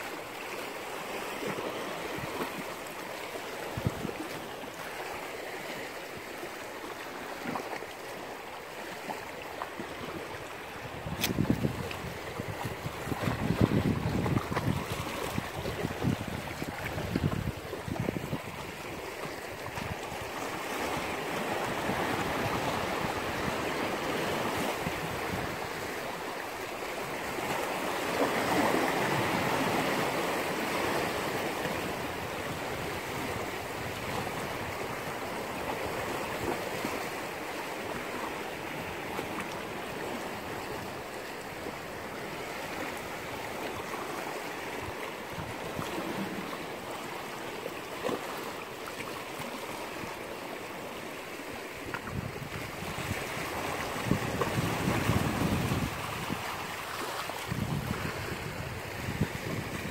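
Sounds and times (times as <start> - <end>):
sea waves washing against rocks: 0.0 - 59.9.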